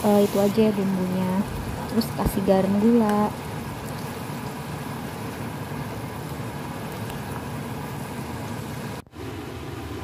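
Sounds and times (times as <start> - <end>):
paste bubbling and sizzling in pan: 0.0 - 9.0.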